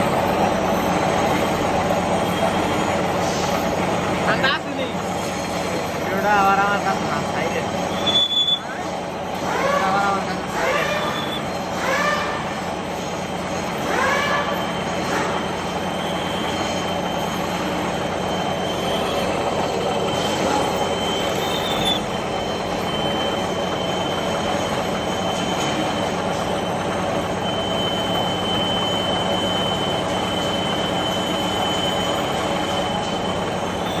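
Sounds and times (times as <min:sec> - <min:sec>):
high squeal of cutting tool: 0:00.0 - 0:34.0
metal lathe machining: 0:00.0 - 0:34.0.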